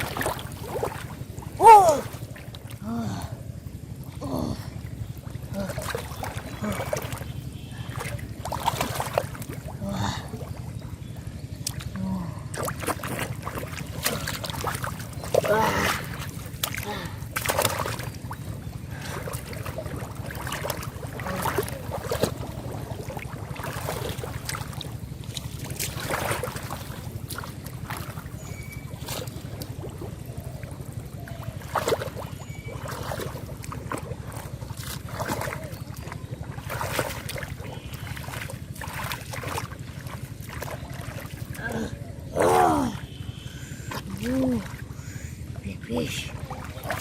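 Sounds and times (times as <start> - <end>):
steady low rumble: 0.0 - 47.0
water splashing and sloshing: 0.0 - 47.0.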